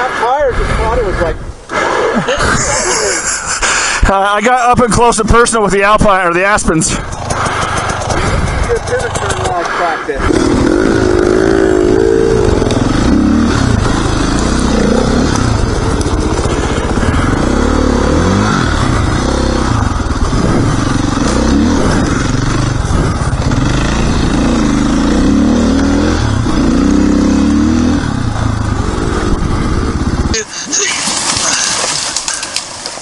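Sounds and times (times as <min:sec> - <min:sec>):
dirt bike engine revving: 0:04.6 - 0:32.6.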